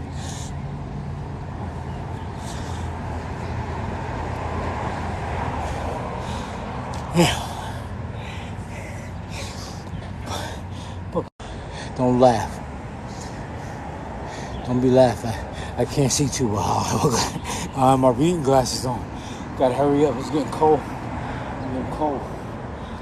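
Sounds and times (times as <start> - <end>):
street traffic: 0.0 - 23.0.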